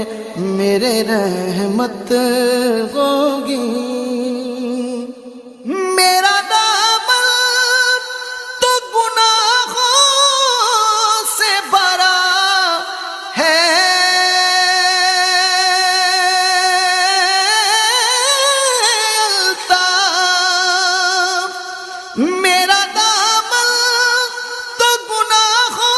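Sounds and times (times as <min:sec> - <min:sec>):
person singing with vibrato: 0:00.0 - 0:25.9.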